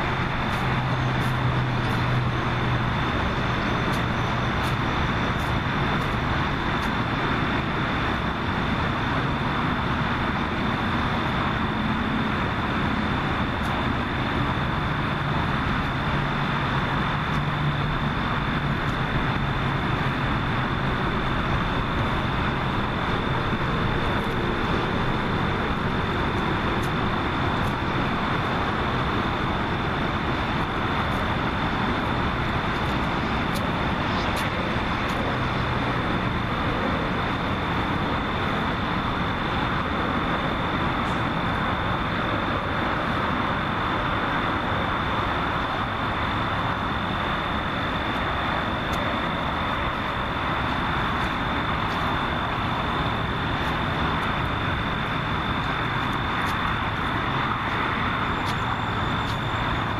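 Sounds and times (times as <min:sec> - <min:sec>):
distant traffic: 0:00.0 - 0:59.9.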